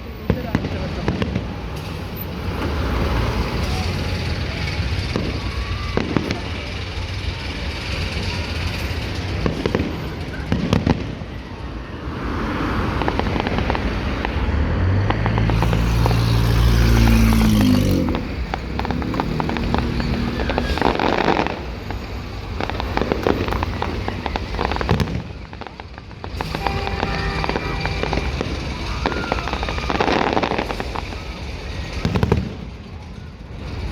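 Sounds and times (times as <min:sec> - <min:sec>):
fireworks bangs: 0:00.0 - 0:33.9
fireworks crackling and popping: 0:00.0 - 0:33.9.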